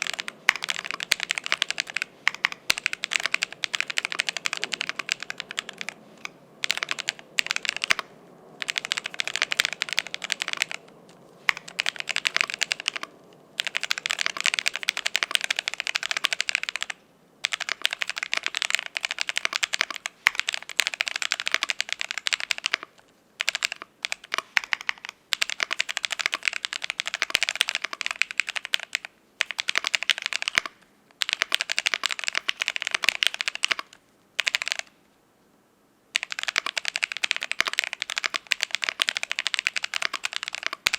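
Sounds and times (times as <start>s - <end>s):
mechanical keyboard typing: 0.0s - 34.9s, 36.1s - 40.9s.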